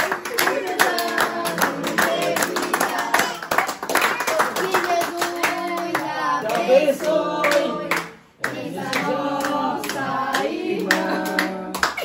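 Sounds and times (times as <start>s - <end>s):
group singing: 0.0s - 12.0s
people clapping in time: 0.0s - 12.0s.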